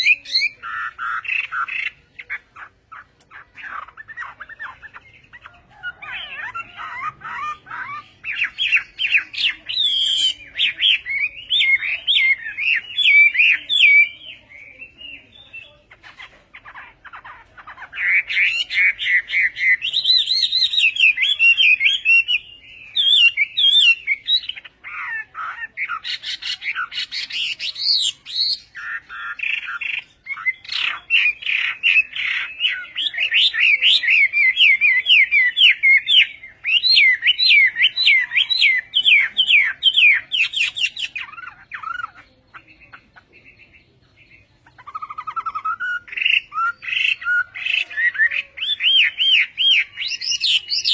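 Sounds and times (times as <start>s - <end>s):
bird singing whistled trills: 0.0s - 15.9s, 16.7s - 50.9s.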